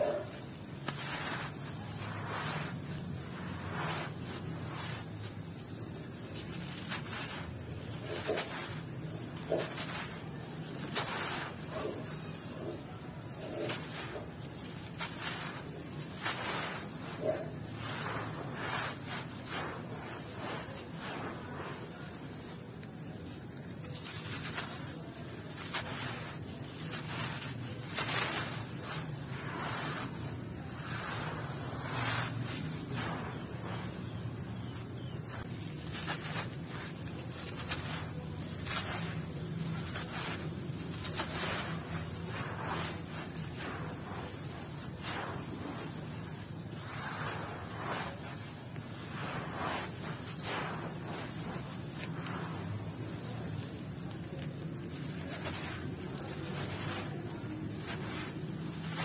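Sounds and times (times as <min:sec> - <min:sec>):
dirt crumbled by hand: 0:00.0 - 0:59.0
grit pouring onto gravel: 0:00.0 - 0:59.0
sand trickling onto pile: 0:00.0 - 0:59.0.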